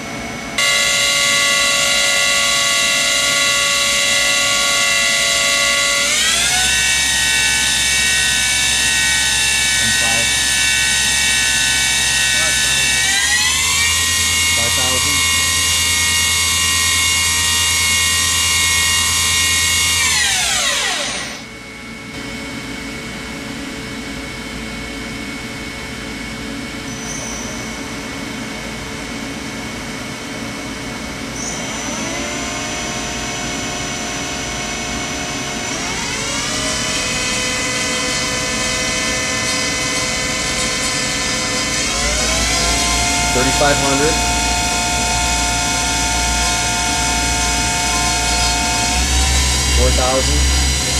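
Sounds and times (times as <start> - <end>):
lathe spindle whine: 0.0 - 22.2, 24.0 - 50.9
steady machine hum: 0.0 - 50.9.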